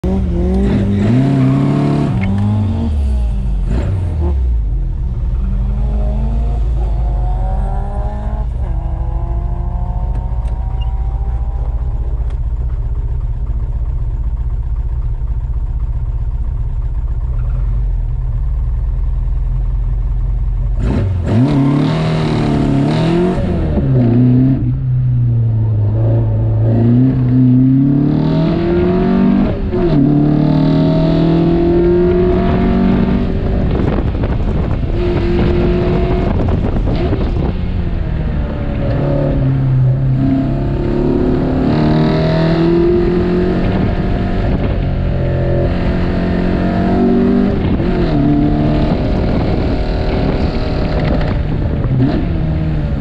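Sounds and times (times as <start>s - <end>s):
sports car engine revving: 0.0s - 14.1s, 20.6s - 53.0s.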